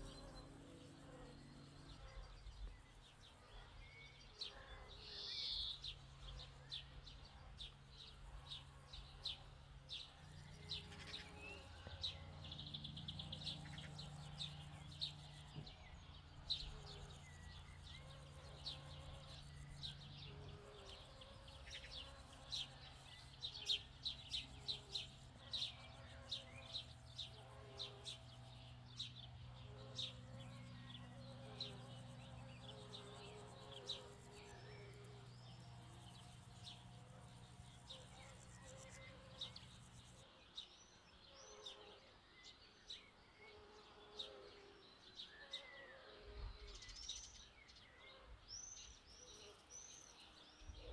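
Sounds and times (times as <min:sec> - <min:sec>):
faint low hum: 0:00.0 - 0:40.8
songbirds chirping and singing: 0:00.0 - 0:50.9.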